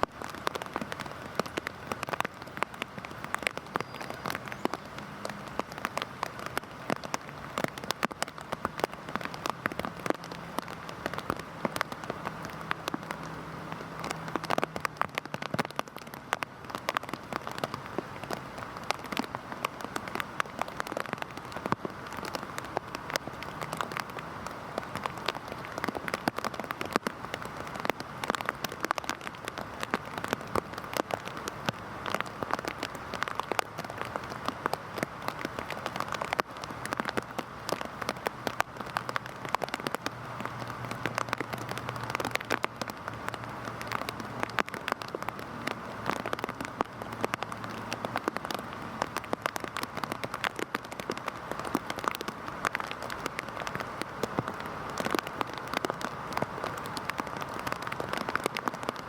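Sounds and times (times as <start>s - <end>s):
heavy rain on a hard surface: 0.0s - 59.0s.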